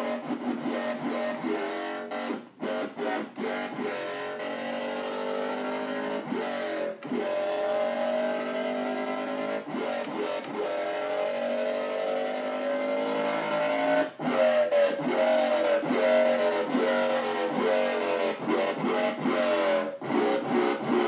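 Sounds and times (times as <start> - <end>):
grating dubstep synthesizer: 0.0 - 21.0.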